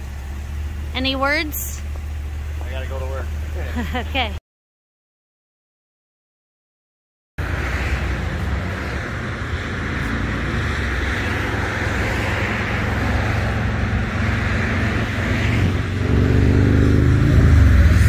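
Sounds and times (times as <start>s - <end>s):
road traffic rumble: 0.0s - 4.4s, 7.4s - 18.0s.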